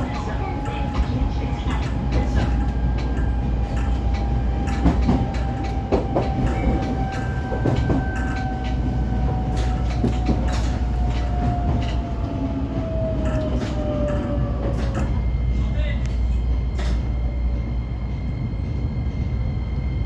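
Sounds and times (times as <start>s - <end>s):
electric railcar running on track: 0.0s - 20.0s.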